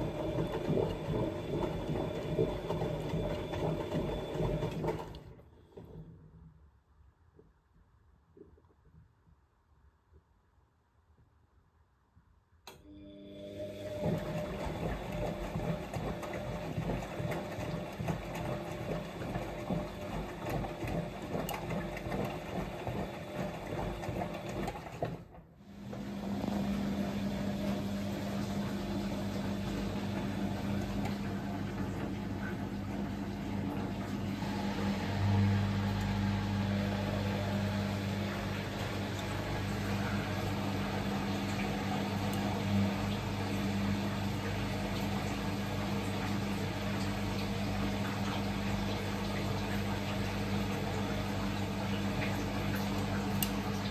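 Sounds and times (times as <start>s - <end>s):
washing machine running: 0.0s - 6.4s, 12.7s - 53.9s.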